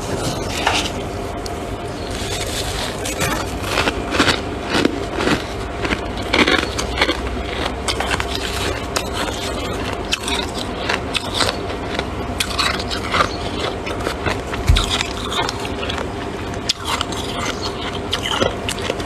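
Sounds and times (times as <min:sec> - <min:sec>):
crunching and chewing frost: 0:00.0 - 0:19.0
steady low hum: 0:00.0 - 0:19.0.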